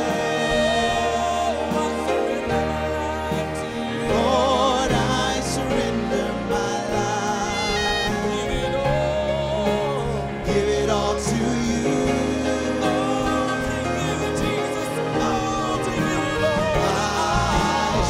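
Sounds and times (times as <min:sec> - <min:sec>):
man singing with vibrato: 0:00.0 - 0:18.0
sustained piano chords: 0:00.0 - 0:18.0.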